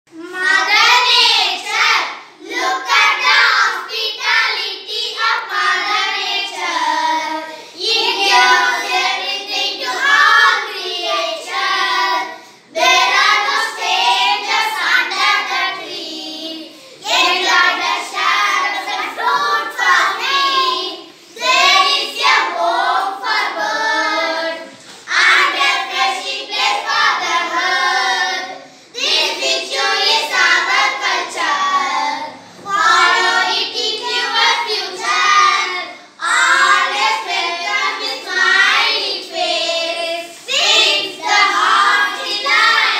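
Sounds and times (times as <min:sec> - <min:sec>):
children singing in unison: 0:00.1 - 0:42.9.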